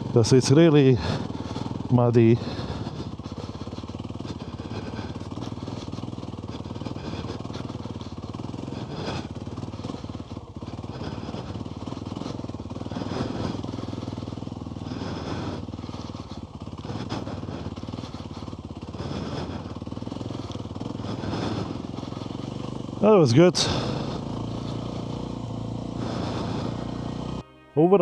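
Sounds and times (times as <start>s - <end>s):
off-road motorbike engine revving: 0.0s - 28.0s.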